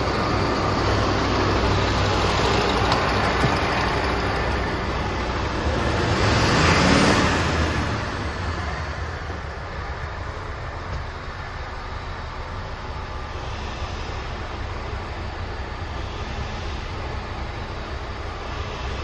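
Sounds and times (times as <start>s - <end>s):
broad rushing noise: 0.0s - 19.0s
diesel engine idling: 0.0s - 19.0s.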